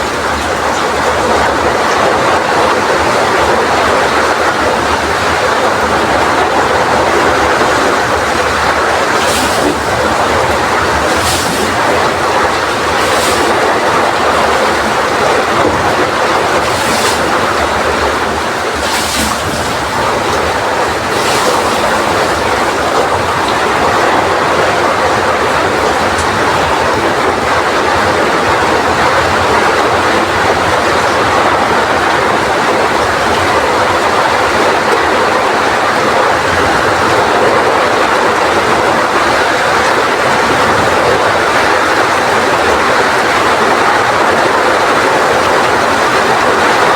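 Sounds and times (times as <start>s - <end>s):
heavy rain: 0.0s - 46.9s
strong wind: 0.0s - 46.9s.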